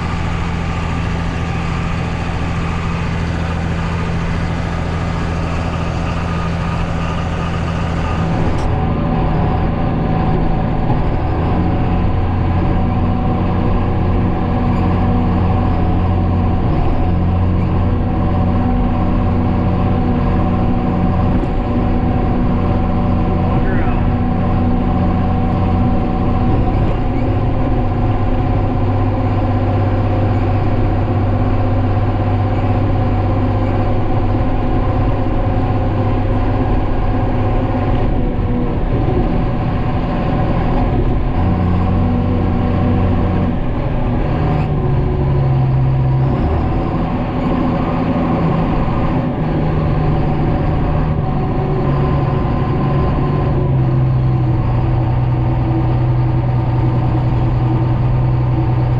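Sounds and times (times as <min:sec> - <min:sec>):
combine harvester droning: 0:00.0 - 0:58.9.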